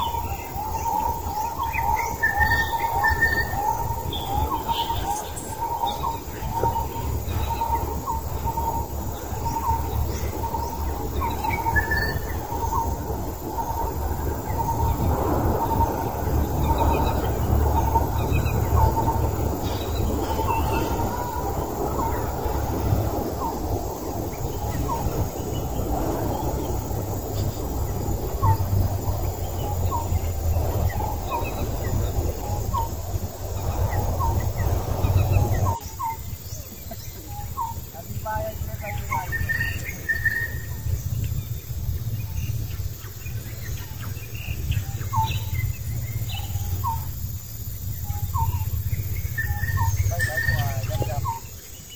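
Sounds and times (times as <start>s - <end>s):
birds chirping: 0.0s - 51.9s
steady low rumble: 0.0s - 51.9s.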